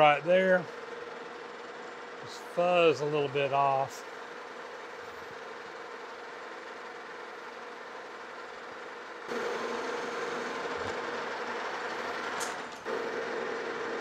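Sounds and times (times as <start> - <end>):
metal lathe humming: 0.0 - 14.0.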